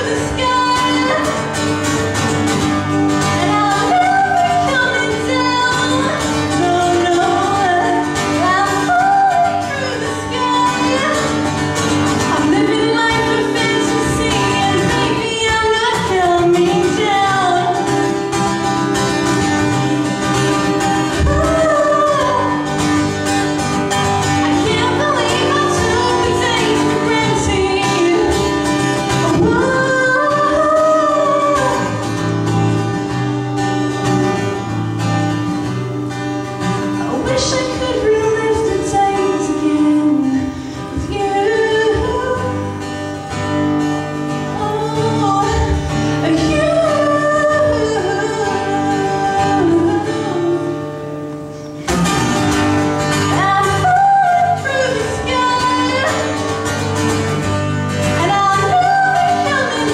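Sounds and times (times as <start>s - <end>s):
woman singing: 0.0s - 33.2s, 36.6s - 43.6s, 44.2s - 51.1s, 53.0s - 56.8s, 57.9s - 59.9s
acoustic guitar strumming: 0.0s - 59.9s.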